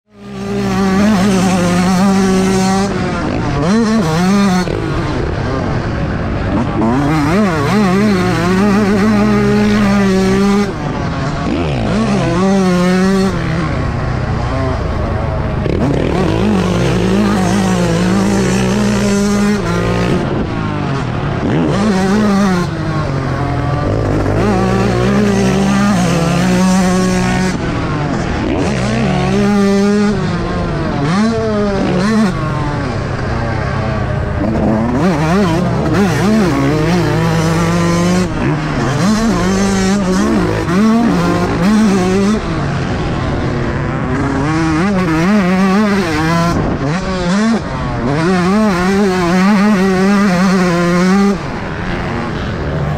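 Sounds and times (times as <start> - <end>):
motocross engine revving: 0.1 - 52.9.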